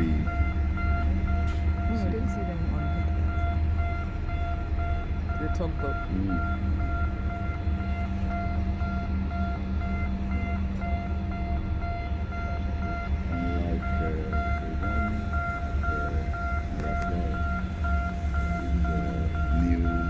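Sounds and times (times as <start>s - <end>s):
high electronic beeps: 0.0s - 20.0s
marine engines rumbling: 0.0s - 20.0s.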